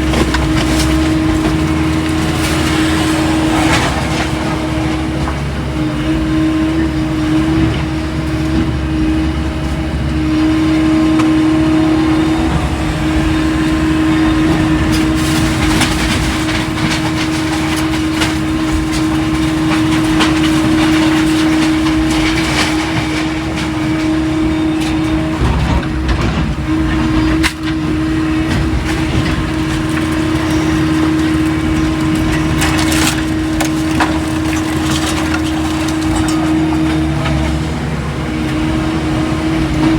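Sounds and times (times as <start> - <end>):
debris cracking and crunching: 0.0 - 39.9
heavy machinery engine running: 0.0 - 39.9.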